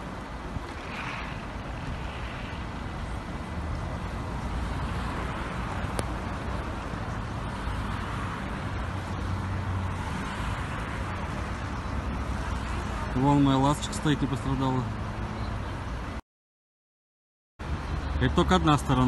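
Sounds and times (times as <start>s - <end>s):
road traffic engine hum: 0.0s - 16.2s, 17.6s - 19.0s.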